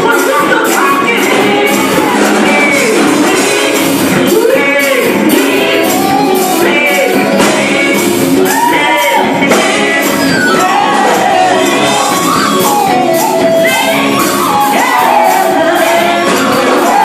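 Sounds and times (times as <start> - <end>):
drum kit beat: 0.0 - 17.0
gospel choir singing: 0.0 - 17.0
keyboard accompaniment: 0.0 - 17.0.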